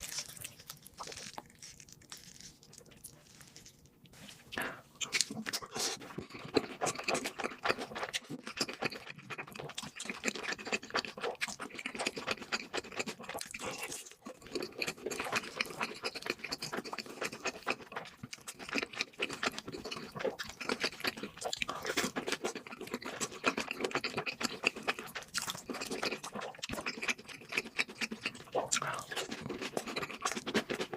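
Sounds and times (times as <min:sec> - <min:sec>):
crunchy chewing of fried food: 0:00.0 - 0:30.9.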